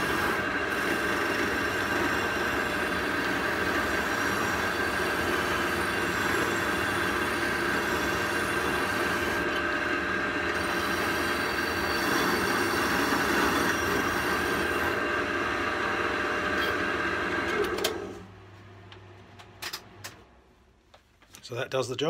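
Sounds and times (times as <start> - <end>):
drill motor coasting down: 0.0 - 18.1.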